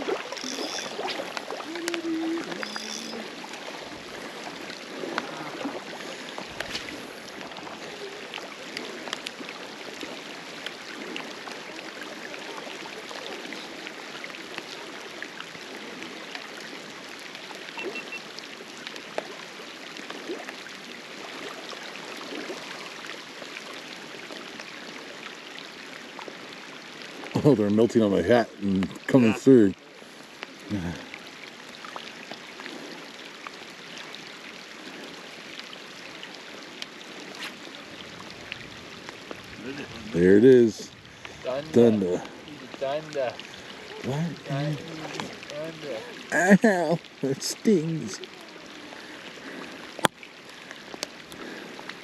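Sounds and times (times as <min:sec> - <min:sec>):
rain and hail falling: 0:00.0 - 0:52.0.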